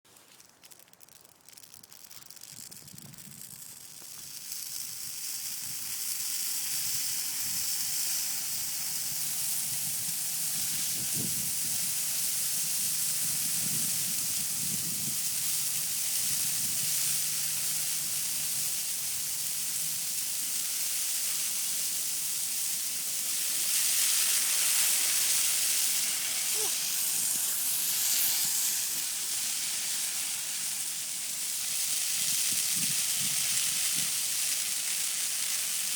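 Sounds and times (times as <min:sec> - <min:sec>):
tree burning with hissing crackle: 0:00.1 - 0:35.9.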